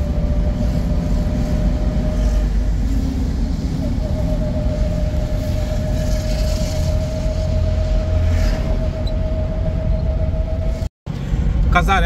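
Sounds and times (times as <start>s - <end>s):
car engine and tyre rumble: 0.0s - 12.0s
constant whine: 0.0s - 12.0s.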